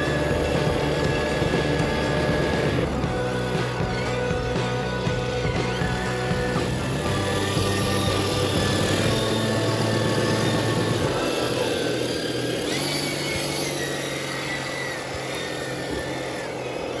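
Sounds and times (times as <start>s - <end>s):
rc truck motor whining: 0.0s - 17.0s.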